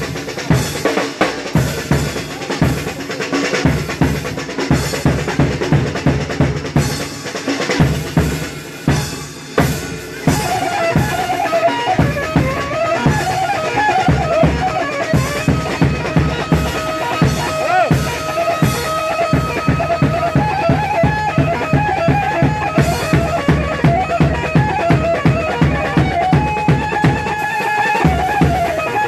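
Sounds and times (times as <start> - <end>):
steady drum beat: 0.0 - 29.0.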